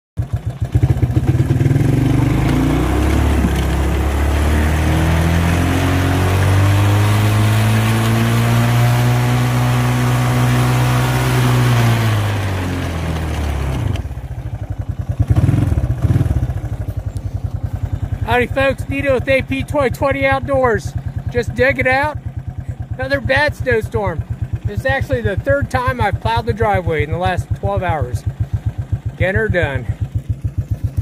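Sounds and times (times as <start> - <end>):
atv engine idling and revving: 0.2 - 31.0.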